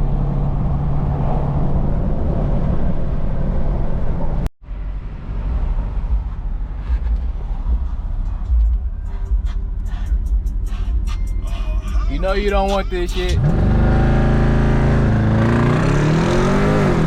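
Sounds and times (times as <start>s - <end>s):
car engine and exhaust rumbling: 0.0s - 17.0s.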